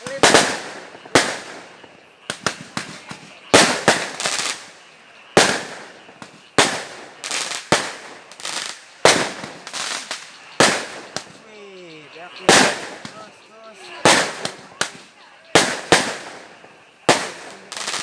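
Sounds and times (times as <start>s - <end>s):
fireworks bangs echoing: 0.0s - 18.0s.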